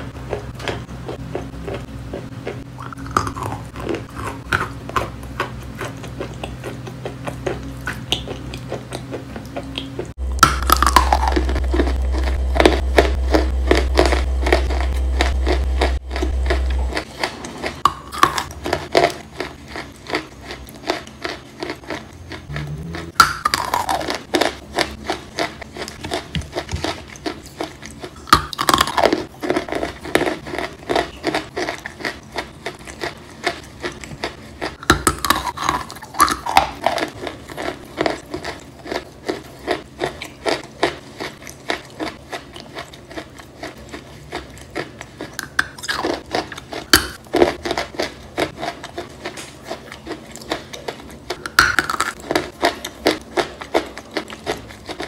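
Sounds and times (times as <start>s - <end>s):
chewing wet chalk crunching: 0.2s - 55.0s.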